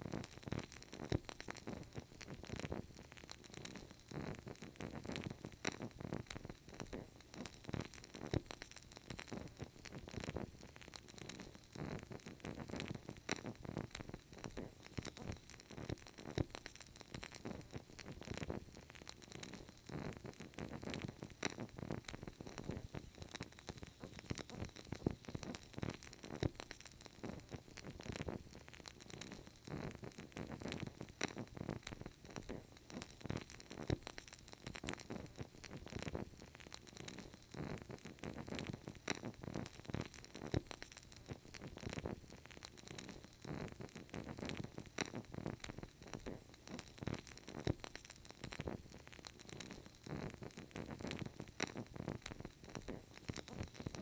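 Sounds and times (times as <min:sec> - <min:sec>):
candle flame crackling: 0:00.0 - 0:54.0
faint hiss: 0:00.0 - 0:54.0.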